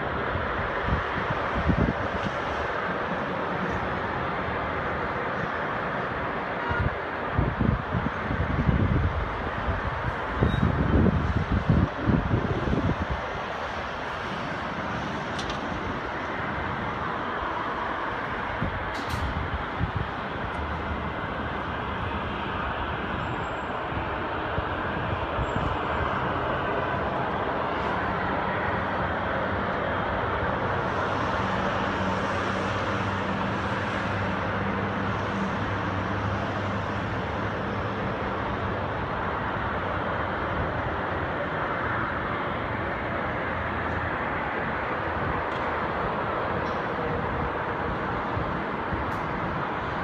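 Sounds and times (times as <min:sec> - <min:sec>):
road traffic: 0:00.0 - 0:50.0.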